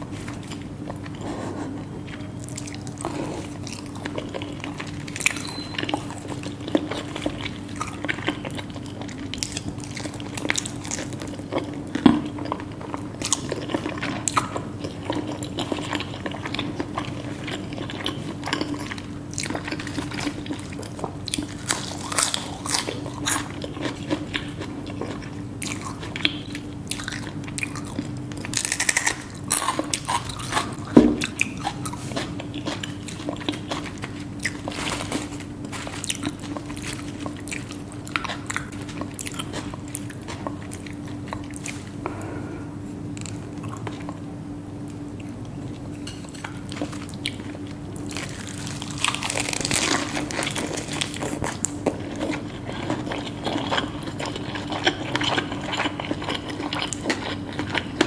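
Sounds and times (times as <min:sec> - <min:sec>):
biting and chewing crunches: 0:00.0 - 0:42.0, 0:44.9 - 0:58.0
steady low hum: 0:00.0 - 0:58.0.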